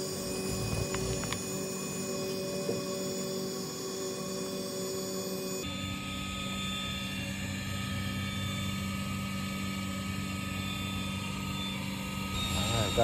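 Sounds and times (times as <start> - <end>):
electric blower humming: 0.0 - 13.0.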